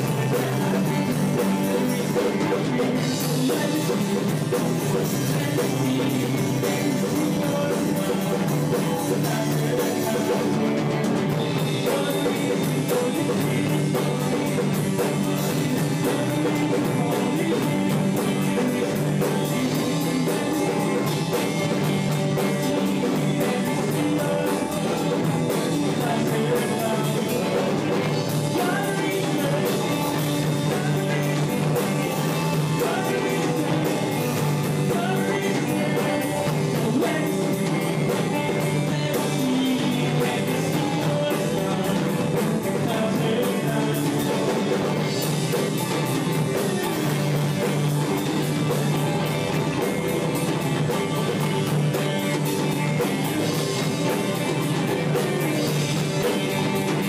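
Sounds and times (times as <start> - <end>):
drum kit: 0.0 - 57.0
electric bass: 0.0 - 57.0
electric guitars: 0.0 - 57.0
person singing: 0.0 - 57.0.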